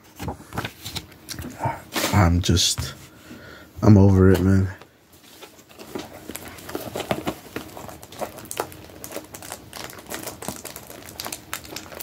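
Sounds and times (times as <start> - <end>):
soft rustle of card packs: 0.0 - 3.0, 3.8 - 12.0.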